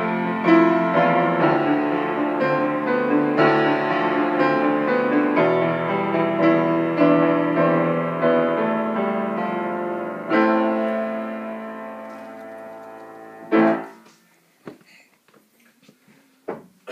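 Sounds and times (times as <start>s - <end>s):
piano chords: 0.0s - 14.2s.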